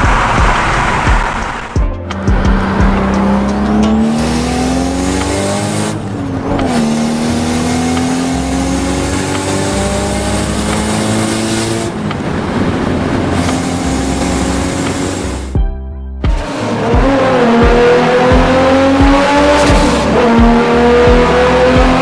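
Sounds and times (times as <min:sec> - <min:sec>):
car engine revving through gears: 0:00.0 - 0:15.6, 0:16.3 - 0:22.0.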